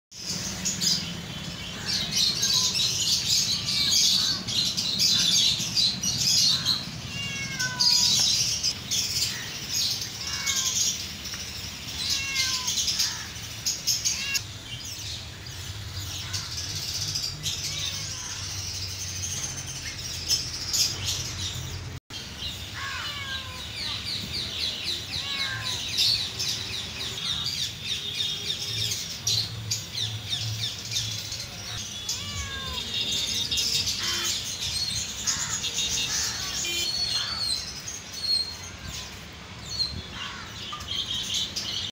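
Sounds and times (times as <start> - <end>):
cage birds chirping and twittering: 0.1 - 41.9.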